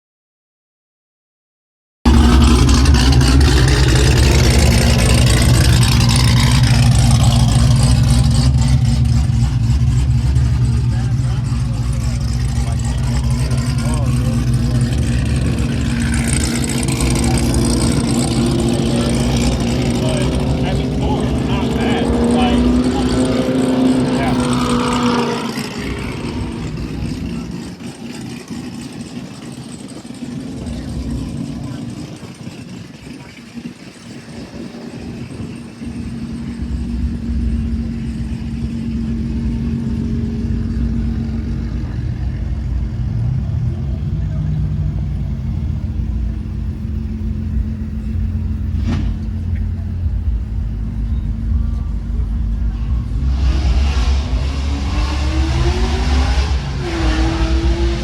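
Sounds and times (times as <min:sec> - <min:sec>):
car engine deep exhaust note: 0:02.1 - 0:33.2, 0:33.9 - 0:58.0.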